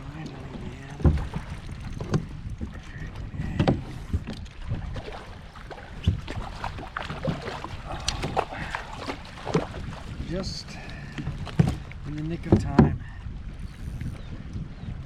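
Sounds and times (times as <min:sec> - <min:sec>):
wind rumble on microphone: 0:00.0 - 0:15.0
knocks and bumps against kayak: 0:00.1 - 0:13.1.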